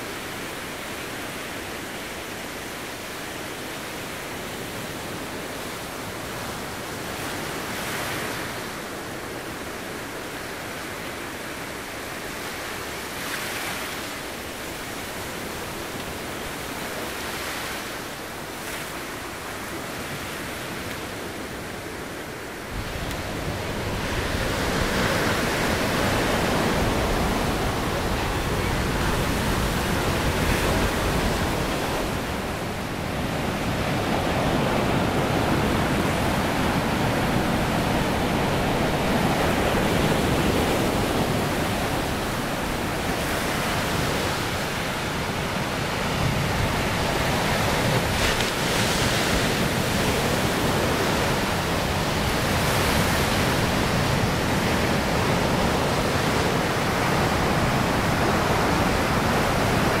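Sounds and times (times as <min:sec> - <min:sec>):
surf washing up a beach: 0:00.0 - 1:00.0.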